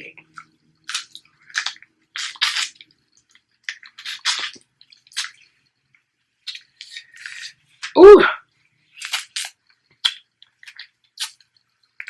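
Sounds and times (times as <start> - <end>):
wet slurping and chewing: 0.2 - 5.8, 6.4 - 8.0, 8.9 - 12.0.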